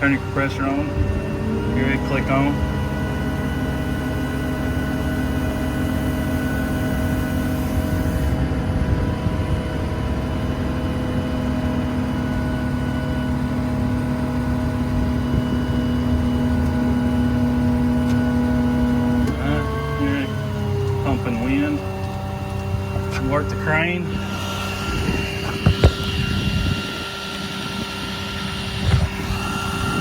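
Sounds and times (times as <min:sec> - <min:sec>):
air compressor whining: 0:00.0 - 0:30.0
truck engine humming: 0:00.0 - 0:30.0.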